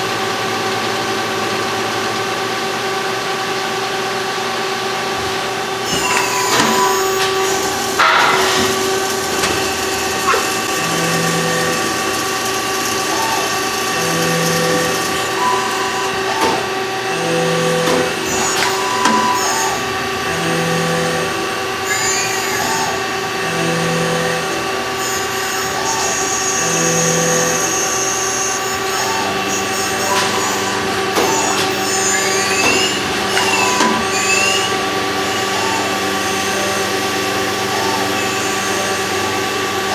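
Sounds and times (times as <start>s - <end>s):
machine tool humming: 0.0s - 39.9s.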